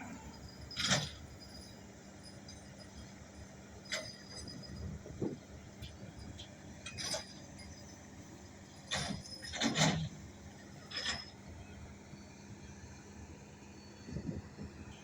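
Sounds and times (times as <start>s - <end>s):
crane engine running: 0.0s - 15.0s.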